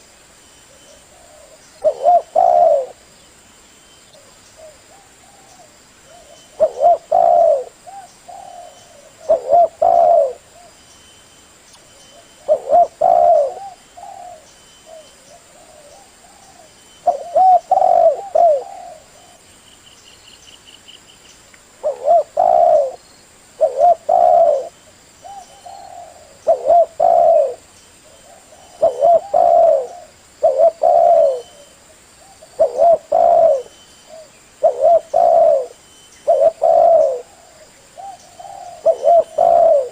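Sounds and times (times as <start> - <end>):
dove cooing: 0.7 - 3.0, 4.2 - 10.8, 12.1 - 19.4, 21.8 - 23.0, 23.6 - 39.9.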